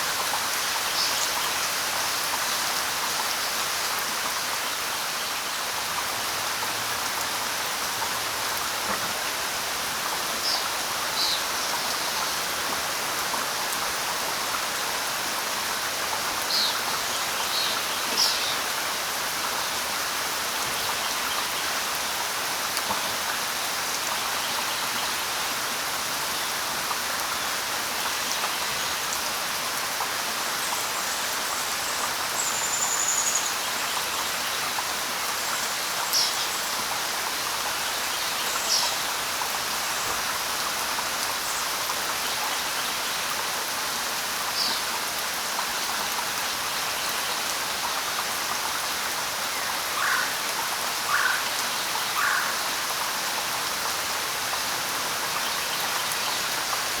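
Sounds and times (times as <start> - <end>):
rain pattering on leaves: 0.0 - 57.0.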